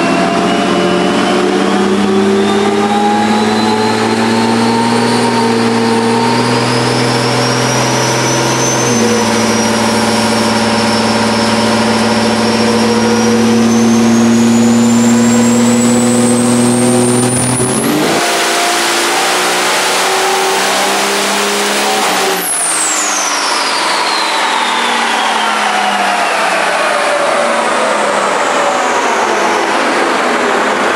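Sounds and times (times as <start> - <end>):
high whine rising in pitch: 0.0 - 30.9
truck engine pulling hard: 0.0 - 30.9.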